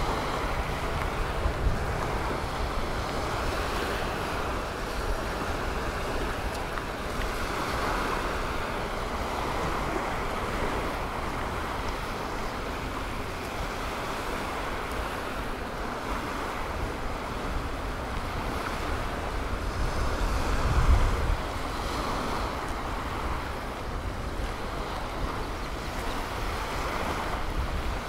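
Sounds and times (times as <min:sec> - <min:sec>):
surf washing onto beach: 0:00.0 - 0:28.0
wind rumbling on microphone: 0:00.0 - 0:28.0.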